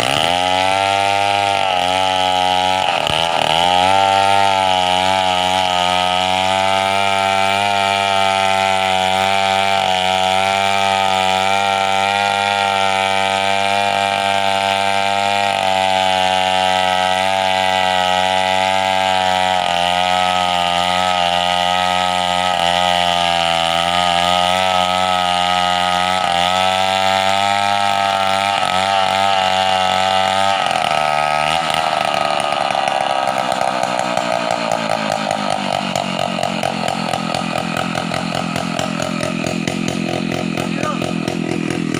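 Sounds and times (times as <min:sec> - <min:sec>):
chainsaw engine running: 0:00.0 - 0:41.9.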